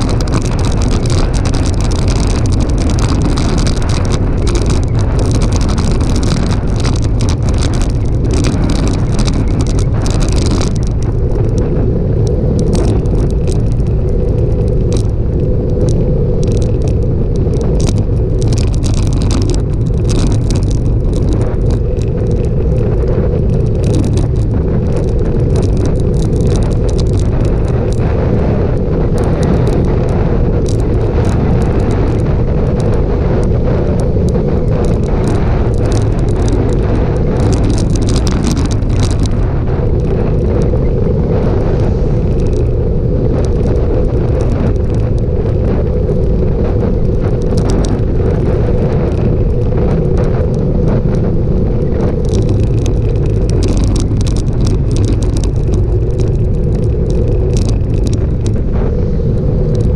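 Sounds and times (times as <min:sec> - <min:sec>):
bike tyres on rough asphalt: 0:00.0 - 0:59.9
clicks and rattles from bumps: 0:00.0 - 0:59.9
wind rushing over microphone: 0:00.0 - 0:59.9.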